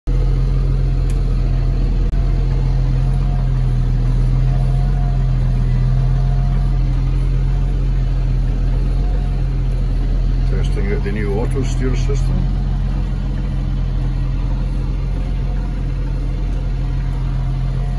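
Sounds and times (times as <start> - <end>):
tractor engine droning: 0.1 - 17.9.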